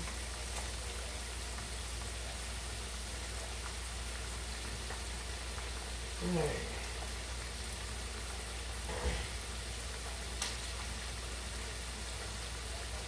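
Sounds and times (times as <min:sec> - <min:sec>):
food sizzling in hot oil: 0:00.0 - 0:13.0
oil crackling: 0:00.0 - 0:13.0.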